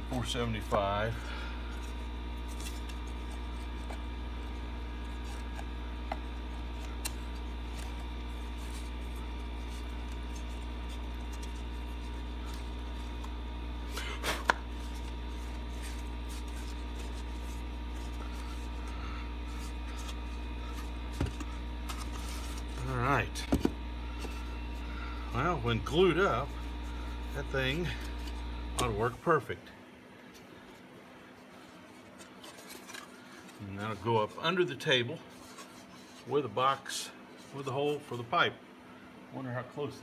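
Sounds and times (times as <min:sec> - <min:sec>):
low machine hum: 0:00.0 - 0:40.0.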